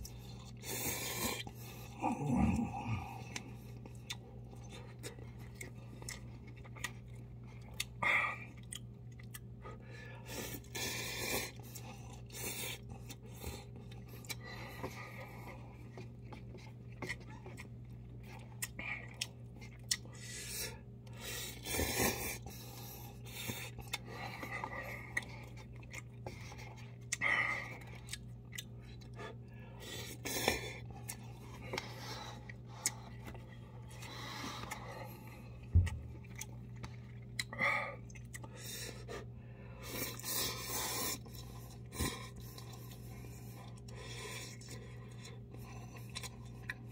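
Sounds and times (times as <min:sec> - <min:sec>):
wet chewing clicks: 0:03.2 - 0:09.6, 0:11.4 - 0:38.9, 0:39.8 - 0:46.9.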